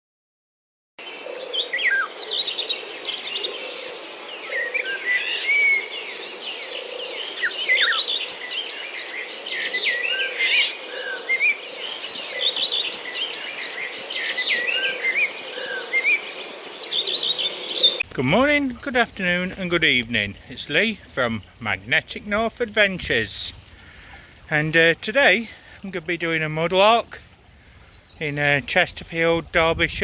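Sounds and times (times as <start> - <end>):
birds chirping and trilling: 1.0 - 30.0.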